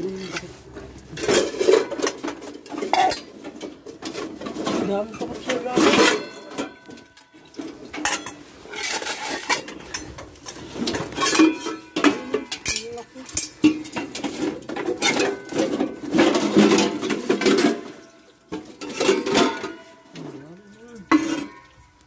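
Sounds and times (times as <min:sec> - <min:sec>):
metal pots clanking together: 0:00.0 - 0:22.0.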